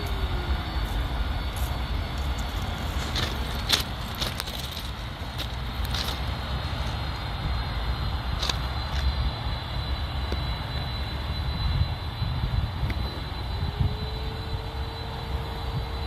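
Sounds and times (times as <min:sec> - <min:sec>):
jet engines rumbling and whining: 0:00.0 - 0:16.0
low whine rising in pitch: 0:00.0 - 0:16.0.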